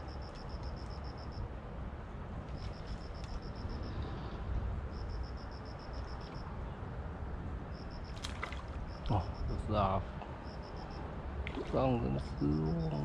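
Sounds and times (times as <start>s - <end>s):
low outdoor rumble and hiss: 0.0s - 13.0s.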